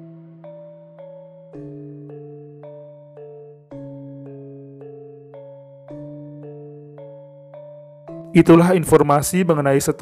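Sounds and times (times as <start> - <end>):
soft bell-like notes: 0.0 - 9.2.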